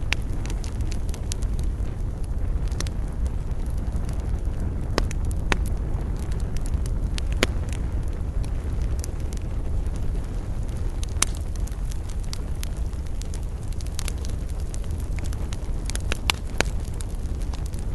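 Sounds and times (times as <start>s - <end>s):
campfire crackling and popping: 0.0s - 17.9s.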